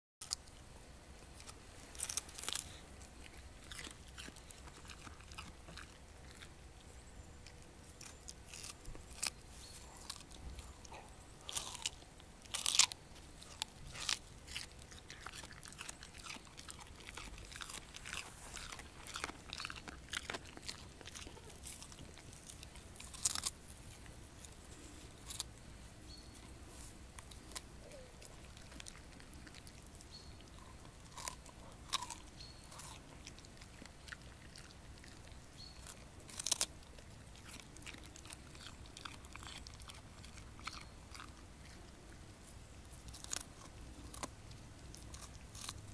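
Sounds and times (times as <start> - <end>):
dog crunching radish: 0.2 - 25.7, 26.4 - 45.9.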